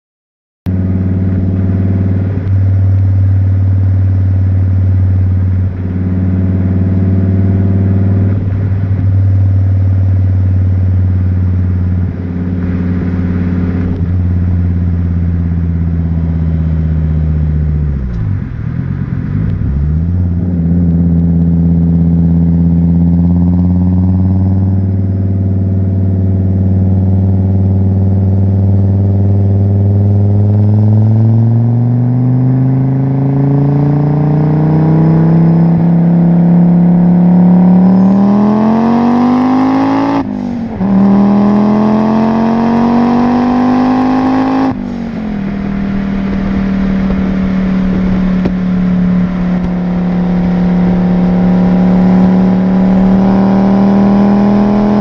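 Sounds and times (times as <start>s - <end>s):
car engine exhaust drone: 0.7s - 55.0s.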